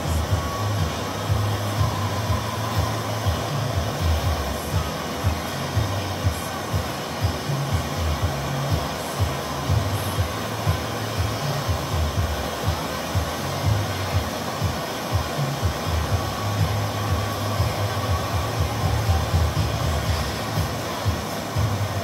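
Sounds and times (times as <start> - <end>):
gas torch flame hissing: 0.0 - 22.0.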